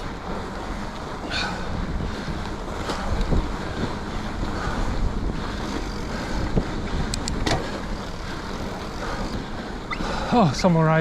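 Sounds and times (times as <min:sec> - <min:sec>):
bike tires rumbling on snow: 0:00.0 - 0:11.0
wind buffeting microphone: 0:00.0 - 0:11.0.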